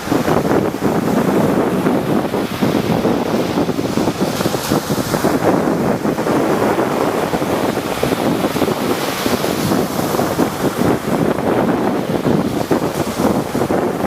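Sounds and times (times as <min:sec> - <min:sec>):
waves breaking: 0:00.0 - 0:14.0
wind buffeting microphone: 0:00.0 - 0:14.0.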